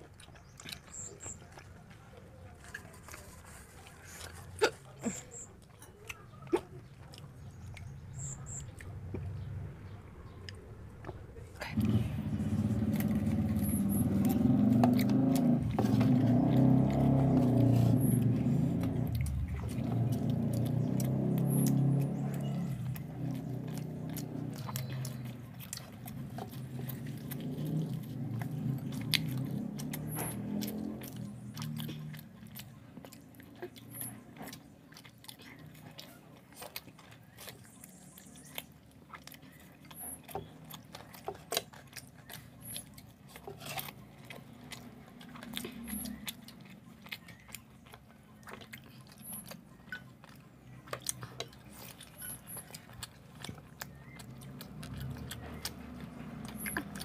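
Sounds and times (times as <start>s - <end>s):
people chewing and biting: 0.0s - 57.0s
wet mouth clicks and smacks: 10.4s - 57.0s.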